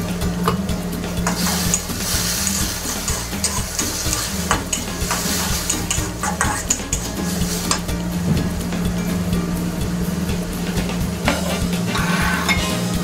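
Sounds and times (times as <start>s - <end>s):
vegetables sizzling in wok: 0.0s - 13.0s
metal spatula scraping wok: 0.5s - 13.0s.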